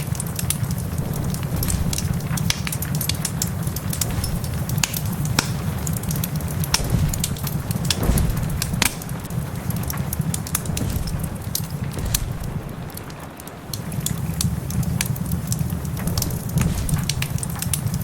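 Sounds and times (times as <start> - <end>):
steady rain: 0.0 - 18.0
wood fire crackling: 0.0 - 18.0
low even rumble: 0.6 - 14.7, 15.4 - 18.0.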